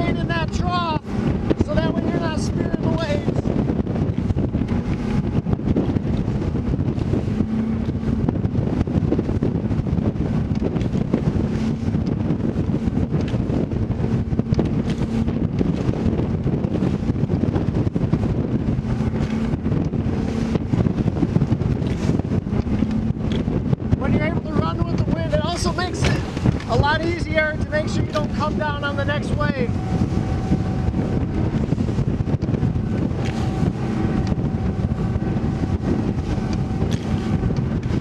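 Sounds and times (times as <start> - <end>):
hull knocking through waves: 0.0 - 38.0
outboard motor drone: 0.0 - 38.0
wind buffeting microphone: 0.0 - 38.0.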